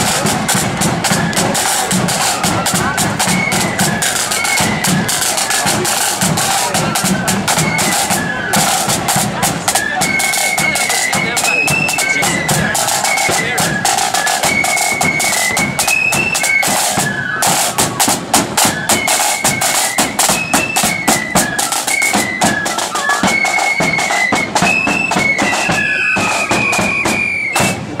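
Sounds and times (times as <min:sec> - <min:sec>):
flutes playing high melody: 0:00.0 - 0:28.0
snare drumming: 0:00.0 - 0:28.0.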